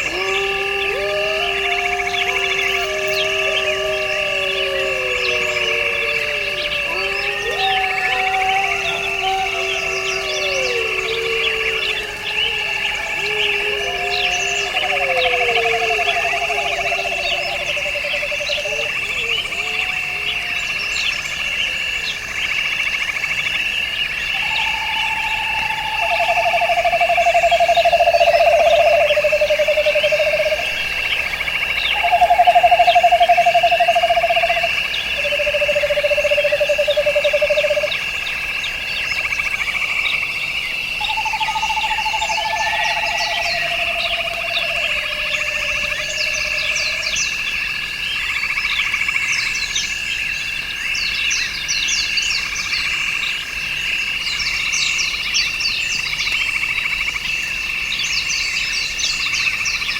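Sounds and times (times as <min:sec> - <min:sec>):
lower pulsed frog trills: 0:00.0 - 0:59.9.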